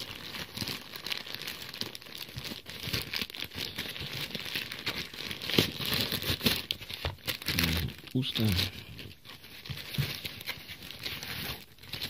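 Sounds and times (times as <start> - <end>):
plastic mailer crinkling: 0.0 - 12.0.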